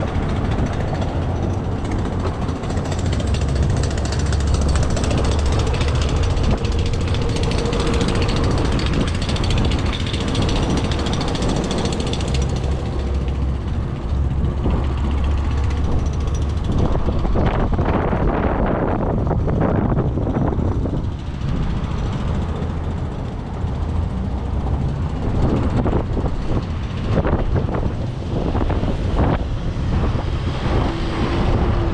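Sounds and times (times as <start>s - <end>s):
bicycle road noise: 0.0s - 31.9s
passing vehicles: 0.0s - 31.9s
wind on microphone: 0.0s - 31.9s.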